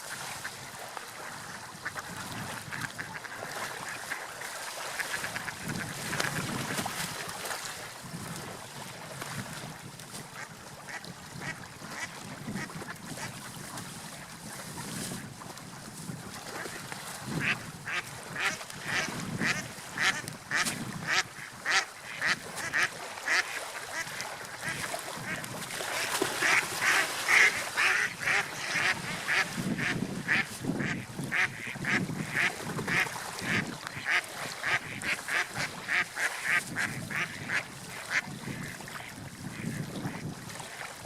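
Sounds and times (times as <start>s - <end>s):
sea waves: 0.0s - 41.0s.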